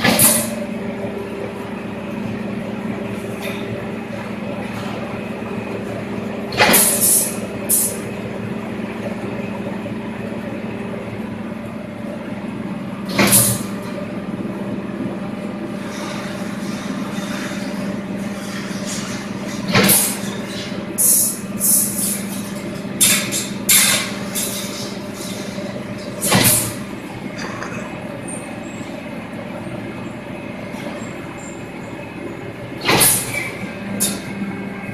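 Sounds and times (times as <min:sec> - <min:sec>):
bending machine humming: 0:00.0 - 0:34.9.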